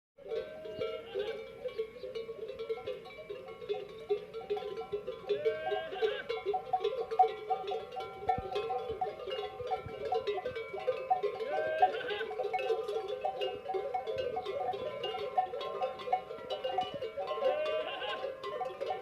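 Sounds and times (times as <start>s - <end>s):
camel bells clanking: 0.2s - 19.0s.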